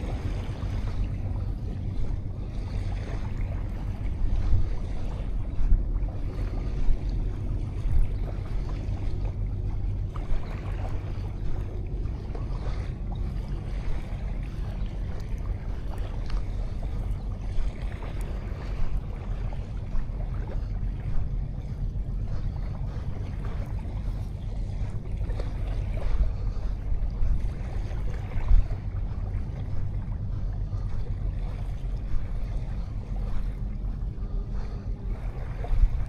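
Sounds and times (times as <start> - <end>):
sea waves on a beach: 0.0 - 36.0
wind rumble on microphone: 0.0 - 36.0.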